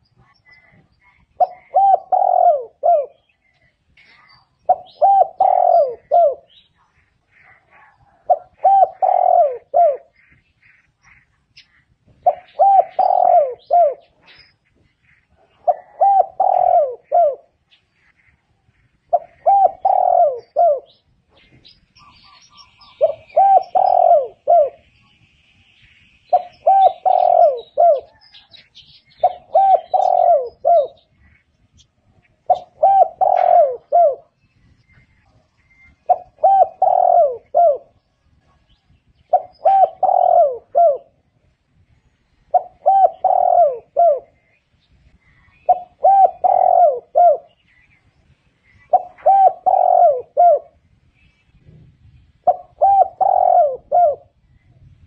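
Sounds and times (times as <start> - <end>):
dove cooing: 0.0 - 18.2, 19.0 - 24.9, 26.3 - 31.4, 32.0 - 41.5, 42.4 - 44.6, 45.2 - 47.9, 48.7 - 50.8, 52.4 - 54.4
faint small birds chirping: 0.0 - 55.0.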